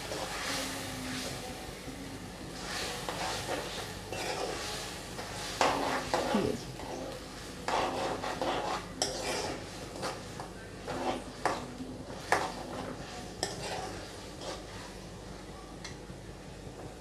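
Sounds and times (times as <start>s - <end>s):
ladle scraping and swishing in pan: 0.0s - 1.7s, 2.5s - 15.0s.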